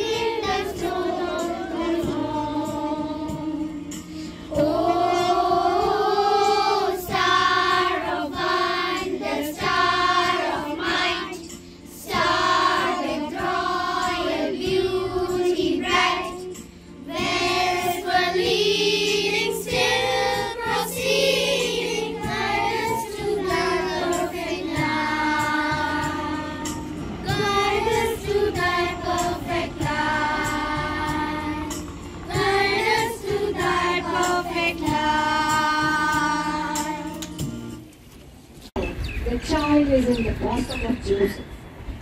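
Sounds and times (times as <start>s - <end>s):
children's choir singing: 0.0s - 37.5s.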